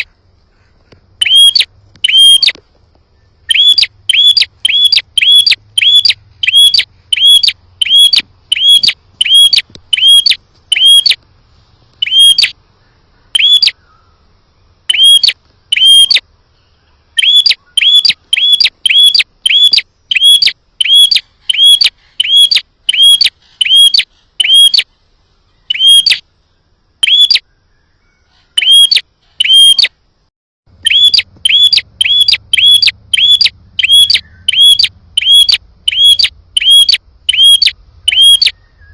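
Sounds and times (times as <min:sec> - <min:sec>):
bird sharp chirping: 0:01.2 - 0:02.6, 0:03.2 - 0:11.2, 0:12.0 - 0:30.0, 0:30.7 - 0:38.9.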